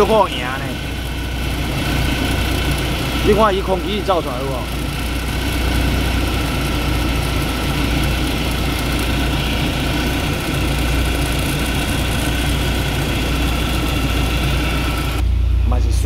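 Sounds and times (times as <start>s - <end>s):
car engine idling: 0.0s - 16.0s
power steering pump whining: 0.0s - 16.0s.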